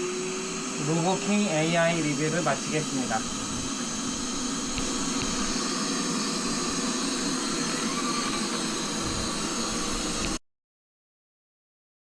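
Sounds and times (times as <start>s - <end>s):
robot vacuum whirring hum: 0.0s - 10.4s.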